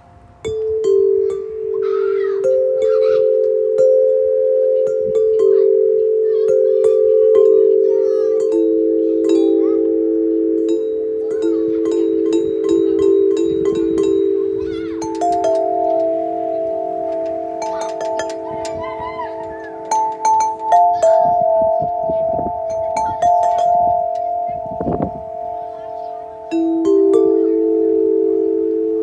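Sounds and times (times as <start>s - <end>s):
metal chime tubes ringing: 0.0s - 29.0s.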